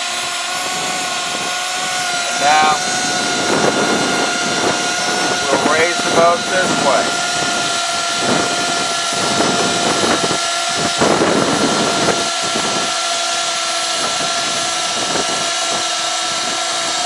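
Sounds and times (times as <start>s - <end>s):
cordless drill whining: 0.0s - 17.0s.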